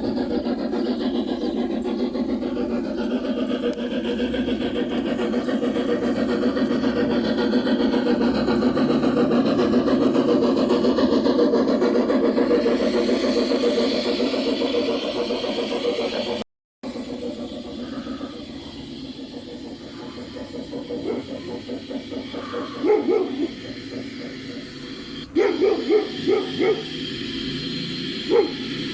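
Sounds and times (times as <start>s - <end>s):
model locomotive drone: 0.0s - 28.9s.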